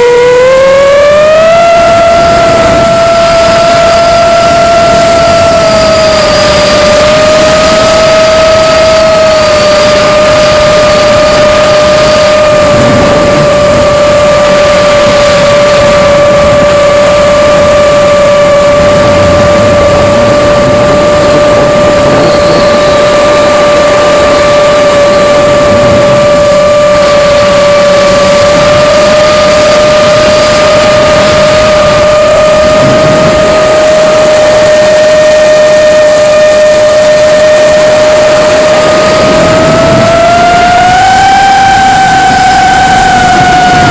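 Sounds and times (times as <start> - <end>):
drone motors whining: 0.0 - 43.9
rushing noise: 0.0 - 43.9.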